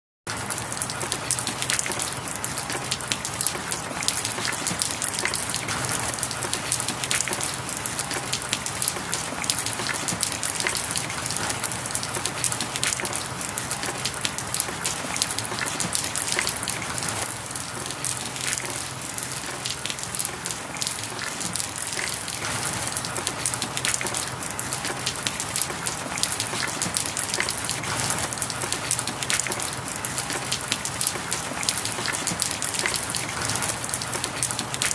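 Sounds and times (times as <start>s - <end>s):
raindrop ticks: 0.3s - 34.9s
steady rain hiss: 0.3s - 34.9s.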